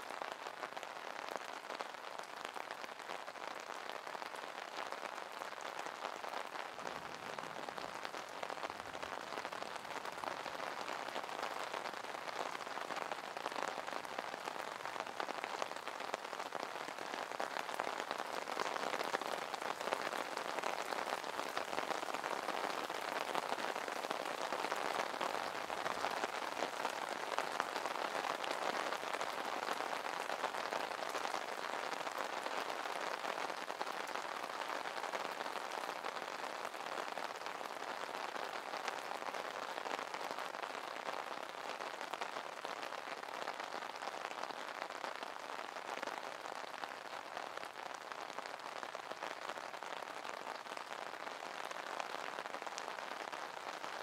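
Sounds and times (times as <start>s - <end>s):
rain on an umbrella: 0.0s - 54.0s.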